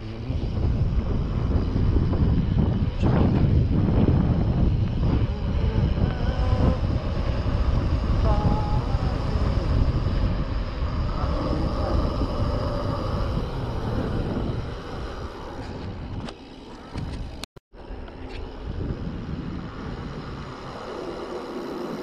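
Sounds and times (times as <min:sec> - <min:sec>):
bike tyres rolling on paved road: 0:00.0 - 0:22.0
wind rumbling on microphone: 0:00.0 - 0:22.0.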